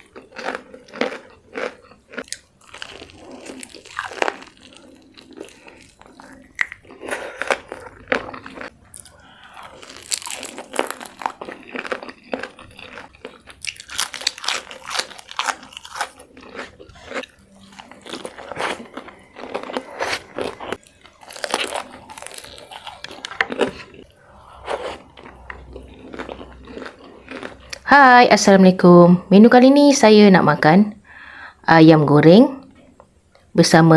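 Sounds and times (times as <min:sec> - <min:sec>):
crunching bites and chewing: 0:00.0 - 0:27.9.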